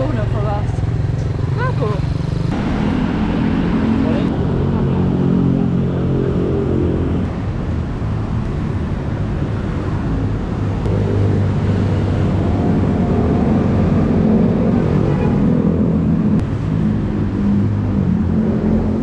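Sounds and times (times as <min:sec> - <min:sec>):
motorbike and car engines passing: 0:00.0 - 0:19.0.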